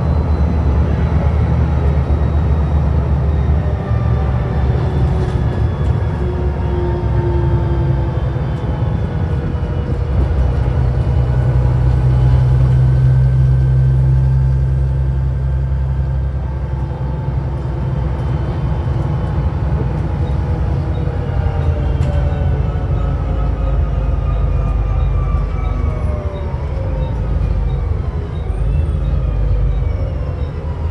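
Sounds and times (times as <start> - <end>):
bus diesel engine droning: 0.0 - 30.9
road rumble: 0.0 - 30.9.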